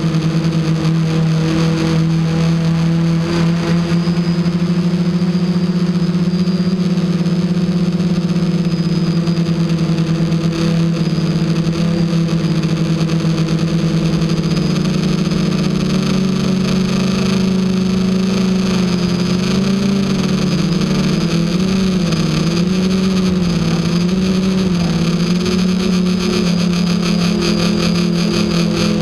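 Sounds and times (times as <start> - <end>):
quadcopter motors buzzing: 0.0 - 29.0.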